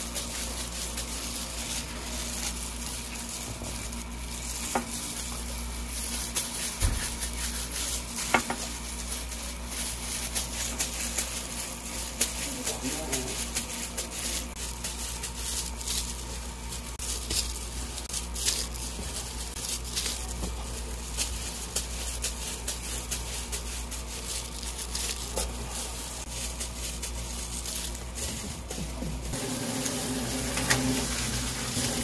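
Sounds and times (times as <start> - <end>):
small clicks and crinkles: 0.0 - 29.3.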